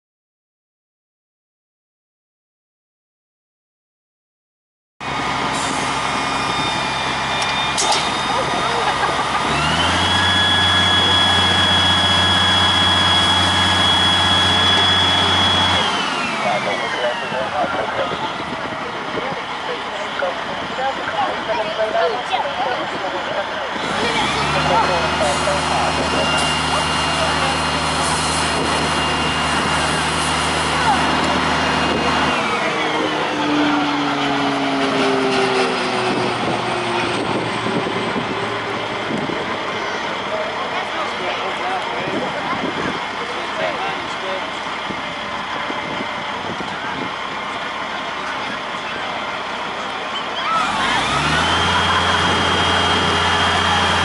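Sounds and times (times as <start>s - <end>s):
machinery winding down: 5.0s - 54.0s
truck engine revving: 5.0s - 54.0s.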